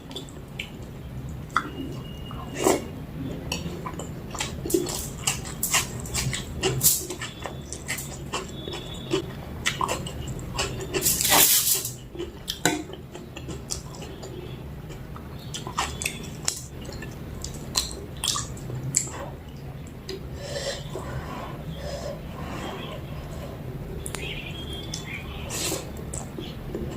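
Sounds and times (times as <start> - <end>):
chewing and wet mouth sounds: 0.0 - 21.6, 22.4 - 26.9.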